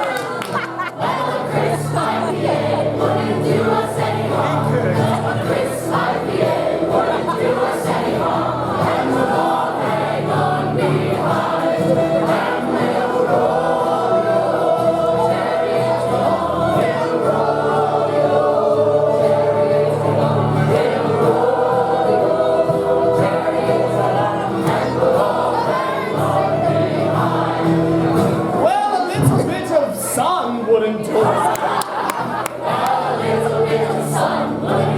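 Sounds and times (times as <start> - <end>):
group singing in harmony: 0.0 - 29.5, 30.8 - 34.9.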